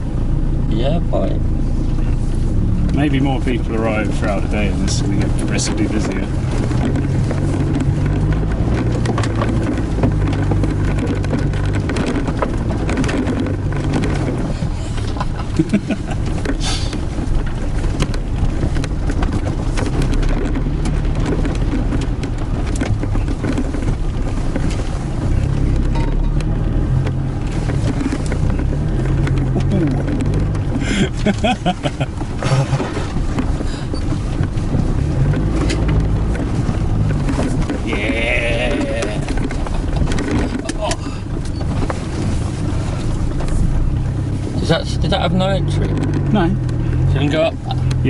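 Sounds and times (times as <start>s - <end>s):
engine running inside cab: 0.0s - 48.0s
knocks and rattles: 2.0s - 48.0s.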